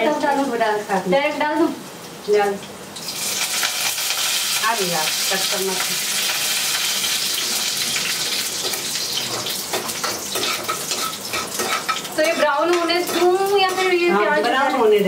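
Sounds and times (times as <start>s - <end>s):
seeds sizzling in hot fat: 0.1s - 15.0s.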